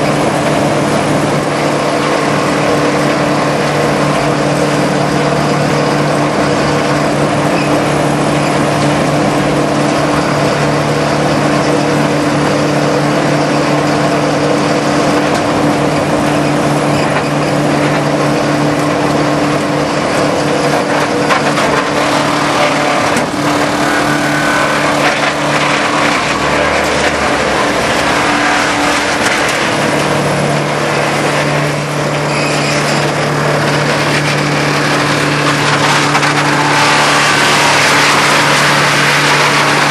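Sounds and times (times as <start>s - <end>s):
diesel engine droning: 0.0s - 39.9s
grinder crunching wooden pallets: 0.0s - 39.9s.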